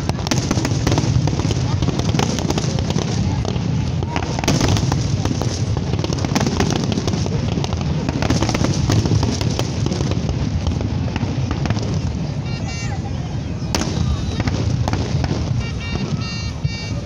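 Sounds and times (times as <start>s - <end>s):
fireworks booming: 0.0s - 17.0s
fireworks crackling: 0.0s - 17.0s.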